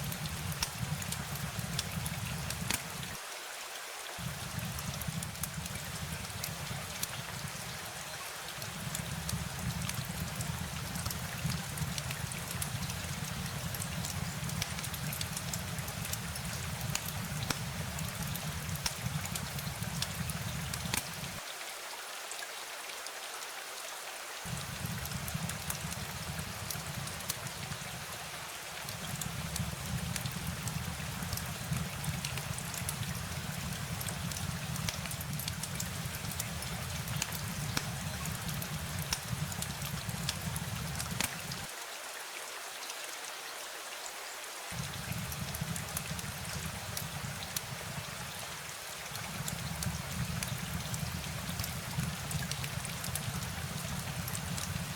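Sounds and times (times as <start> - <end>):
rain pattering: 0.0 - 3.3, 4.1 - 21.6, 24.4 - 42.2, 44.7 - 54.9.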